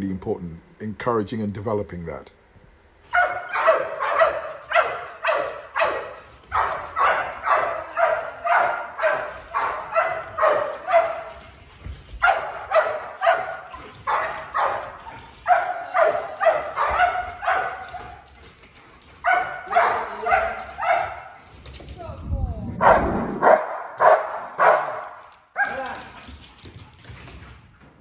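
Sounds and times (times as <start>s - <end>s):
dogs barking hard and fast: 3.0s - 21.8s, 22.8s - 27.5s.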